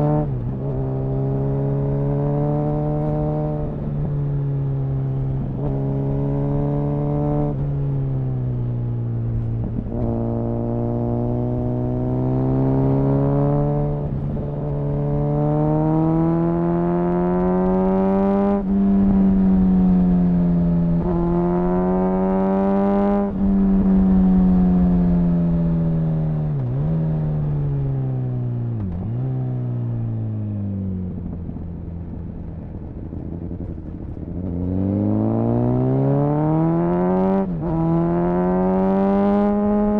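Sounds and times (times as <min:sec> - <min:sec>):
motorcycle engine revving: 0:00.0 - 0:08.0, 0:08.8 - 0:39.9.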